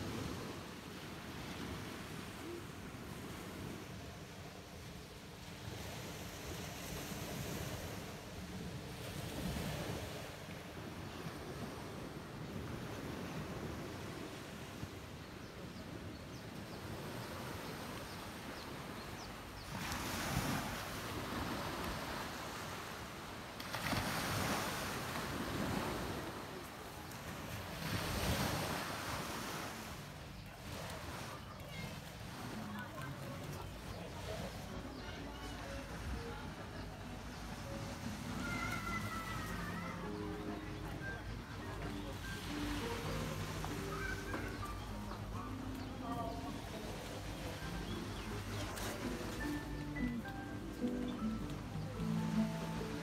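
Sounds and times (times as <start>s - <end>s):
small waves breaking on beach: 0.0s - 50.2s.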